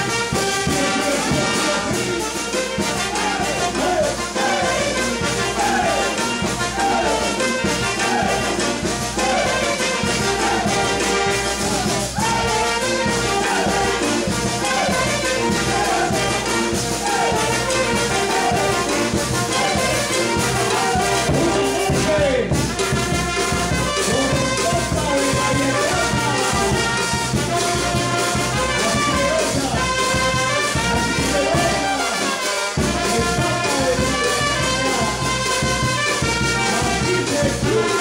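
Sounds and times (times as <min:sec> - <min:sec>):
brass band playing: 0:00.0 - 0:38.0.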